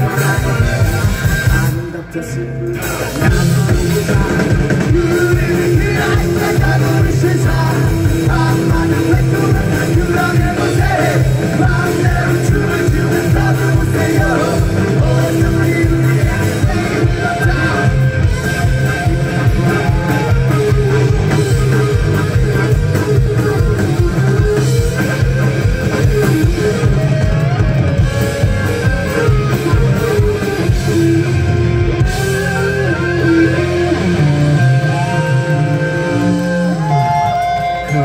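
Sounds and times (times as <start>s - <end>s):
electric guitar: 0.0s - 38.0s
drum kit beat: 2.8s - 37.8s.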